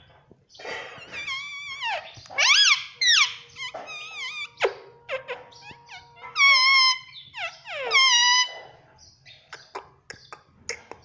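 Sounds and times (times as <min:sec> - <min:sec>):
parakeet chirps and calls: 0:00.5 - 0:11.0.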